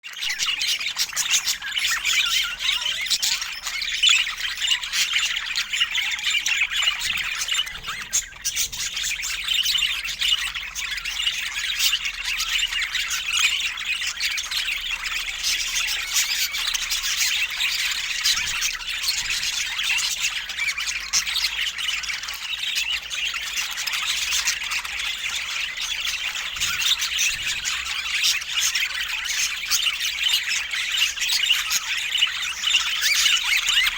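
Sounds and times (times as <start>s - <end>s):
budgerigars chirping and squawking: 0.1s - 33.9s.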